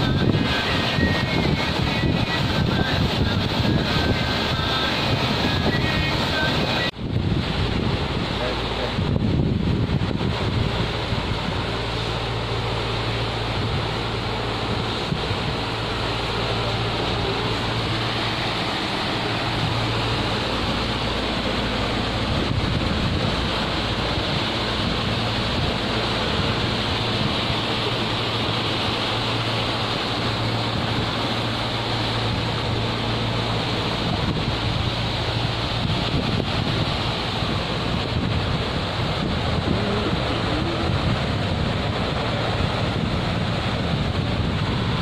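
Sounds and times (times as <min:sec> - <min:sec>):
boat engine drone: 0:00.0 - 0:45.0
water rushing: 0:00.0 - 0:45.0
wind buffeting microphone: 0:00.0 - 0:45.0.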